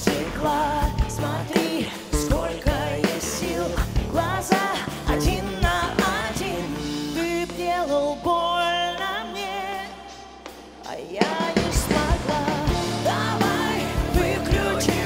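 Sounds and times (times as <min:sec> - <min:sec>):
live band playing pop-rock: 0:00.0 - 0:15.0.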